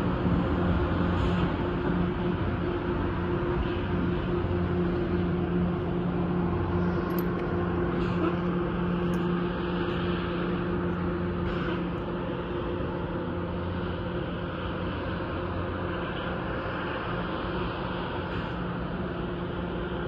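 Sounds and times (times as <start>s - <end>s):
heavy engine droning: 0.0s - 20.0s.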